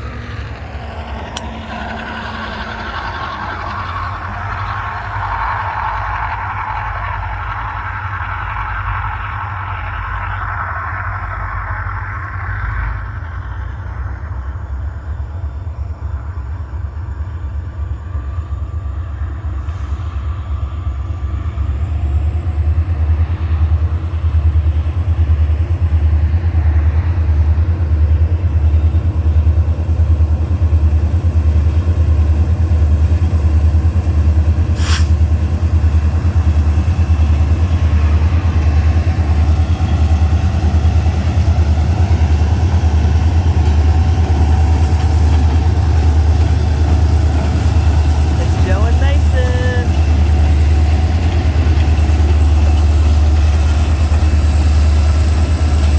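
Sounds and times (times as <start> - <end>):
diesel locomotive engines running: 0.0 - 55.9.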